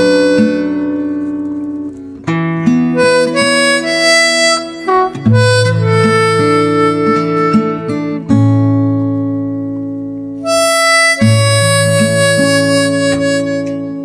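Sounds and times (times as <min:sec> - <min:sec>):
harmonica melody: 0:00.0 - 0:14.0
plucked acoustic guitar: 0:00.0 - 0:14.0.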